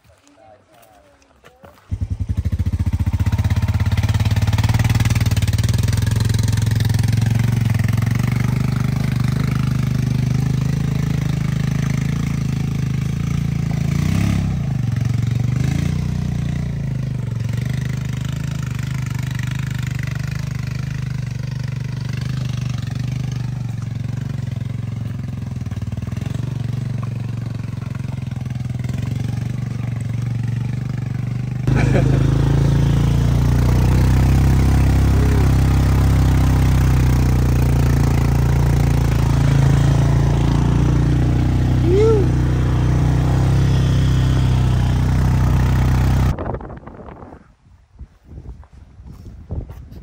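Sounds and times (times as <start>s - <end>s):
dirt bike engine: 0.0s - 47.4s
atv engine at low speed: 0.0s - 50.0s.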